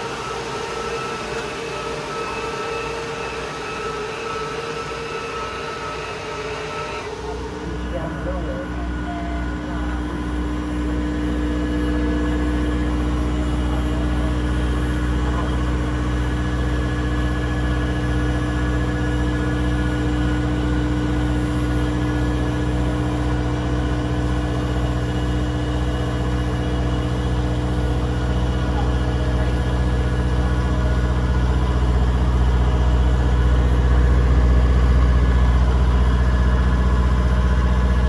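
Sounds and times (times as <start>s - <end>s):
diesel engines droning: 7.0s - 38.0s.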